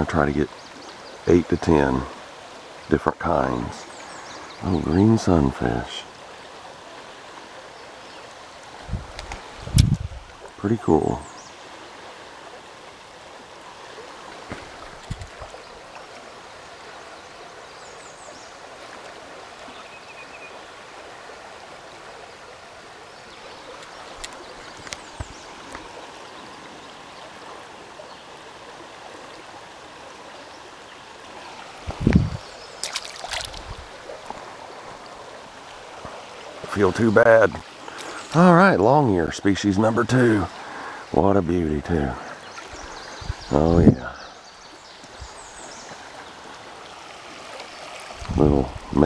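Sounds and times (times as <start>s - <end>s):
stream rushing: 0.0s - 49.0s.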